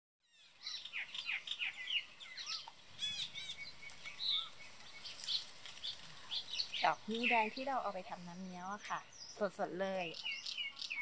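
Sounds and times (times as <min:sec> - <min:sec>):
birds chirping and whistling: 0:00.2 - 0:11.0.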